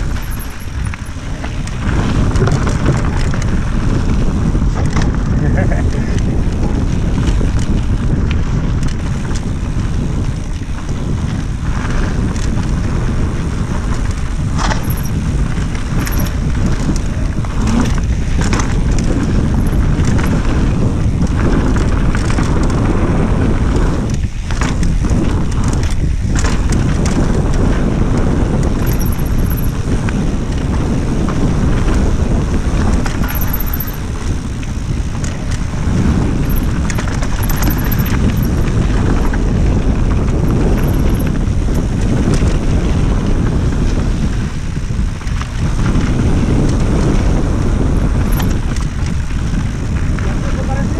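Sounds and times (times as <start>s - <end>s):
bike rattling and knocking: 0.0s - 50.9s
bike tyres rumbling over dirt: 0.0s - 50.9s
wind buffeting microphone: 0.0s - 50.9s.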